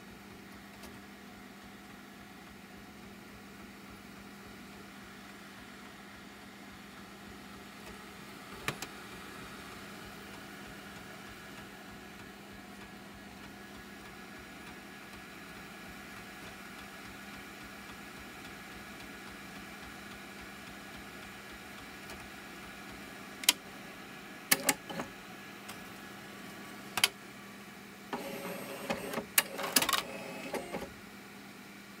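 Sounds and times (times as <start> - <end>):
disc duplicator humming: 0.2 - 32.0.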